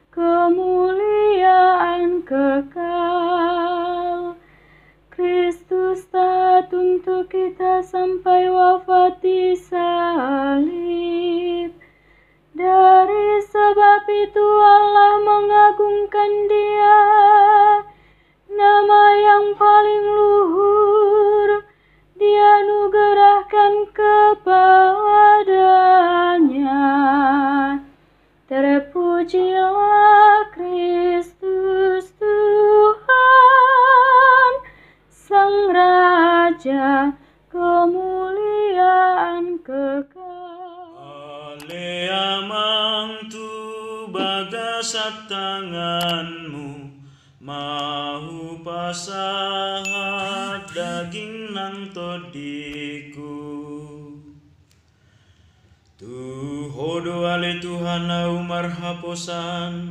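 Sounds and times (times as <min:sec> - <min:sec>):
woman singing slow melody: 0:00.0 - 0:04.5, 0:05.1 - 0:11.8, 0:12.5 - 0:27.9, 0:28.5 - 0:46.8, 0:47.4 - 0:54.0.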